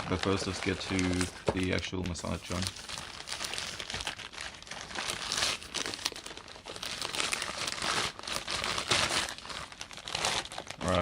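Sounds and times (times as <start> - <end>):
packaging crumpling and crinkling: 0.0 - 11.0
packaging tearing: 0.0 - 11.0.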